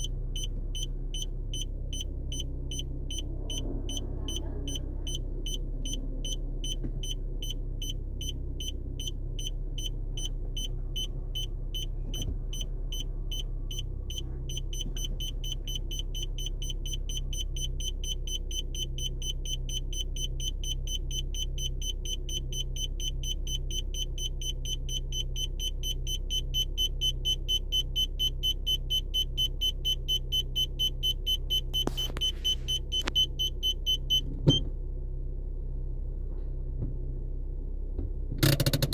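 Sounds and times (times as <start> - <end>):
parking sensor beeps: 0.0 - 34.7
car engine idling: 0.0 - 38.9.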